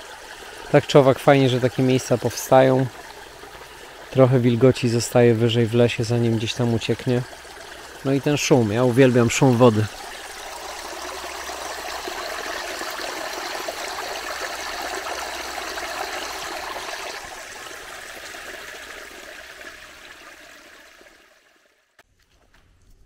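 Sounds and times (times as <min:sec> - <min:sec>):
stream water rushing: 0:00.0 - 0:21.4.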